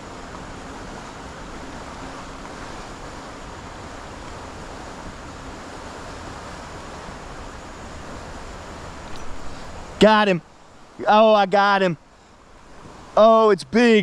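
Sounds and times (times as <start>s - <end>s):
turbulent white water churning: 0.0s - 14.0s.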